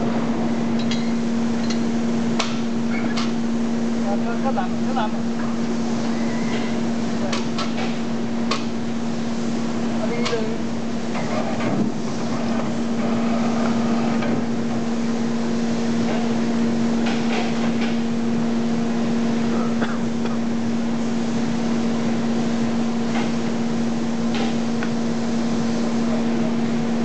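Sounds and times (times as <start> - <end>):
factory machinery hum: 0.0 - 27.0.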